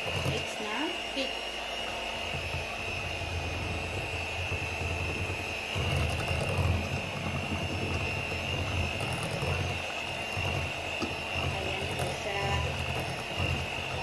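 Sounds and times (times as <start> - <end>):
beaters churning batter: 0.0 - 14.0
hand mixer motor whine: 0.0 - 14.0.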